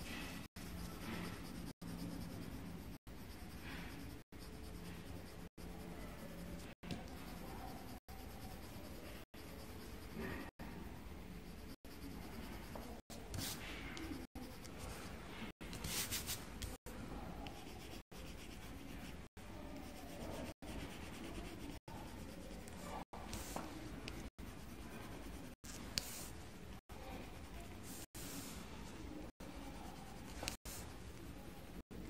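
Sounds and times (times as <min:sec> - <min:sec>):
pencil scratching on paper: 0:00.0 - 0:31.8.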